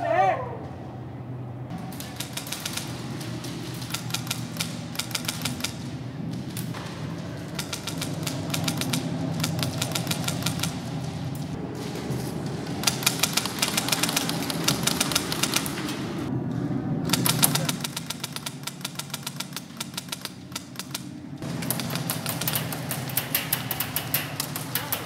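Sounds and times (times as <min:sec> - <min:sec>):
airsoft guns firing full-auto: 0:01.7 - 0:11.2, 0:12.8 - 0:16.0, 0:17.1 - 0:25.0.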